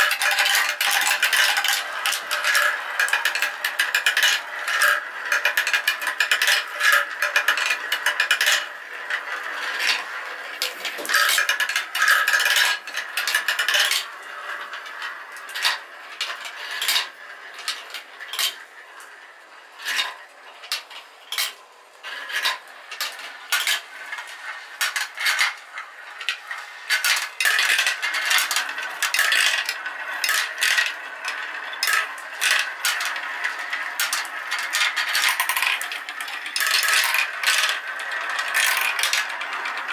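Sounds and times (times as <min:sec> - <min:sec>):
marbles clicking: 0:00.0 - 0:19.0, 0:19.8 - 0:39.9
marbles rolling in plastic run: 0:00.0 - 0:39.9.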